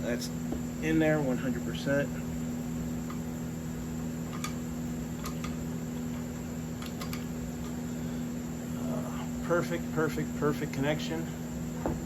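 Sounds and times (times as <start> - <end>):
electrical hum of equipment: 0.0 - 12.0.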